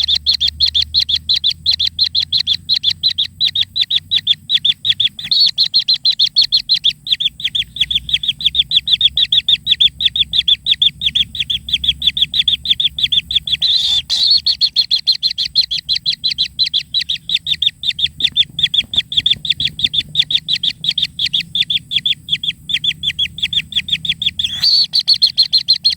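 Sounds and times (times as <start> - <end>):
bird chicks chirping: 0.0 - 25.9.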